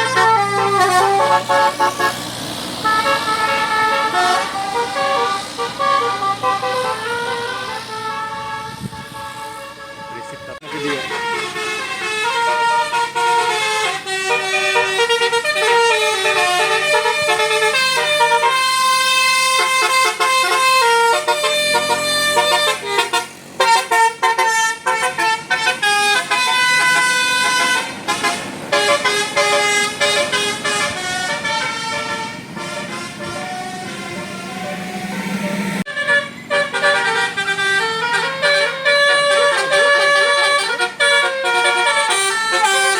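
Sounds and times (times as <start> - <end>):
bus melody horn playing tune: 0.0 - 42.9.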